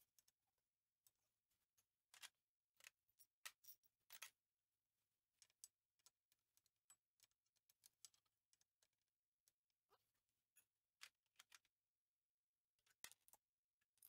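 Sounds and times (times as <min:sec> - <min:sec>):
faint clicks and taps of parts: 0:00.0 - 0:00.4, 0:01.0 - 0:04.6, 0:05.2 - 0:11.9, 0:12.7 - 0:14.0.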